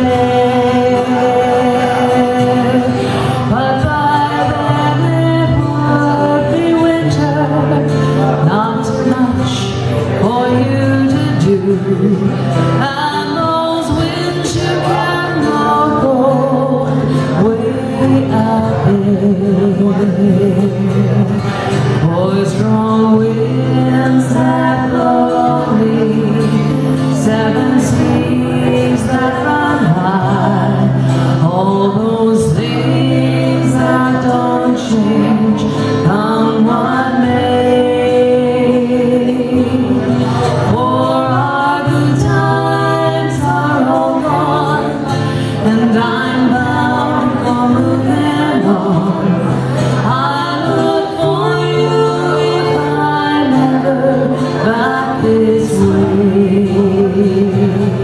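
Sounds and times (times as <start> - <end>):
strummed acoustic guitars: 0.0 - 58.0
two women singing in harmony: 0.0 - 58.0.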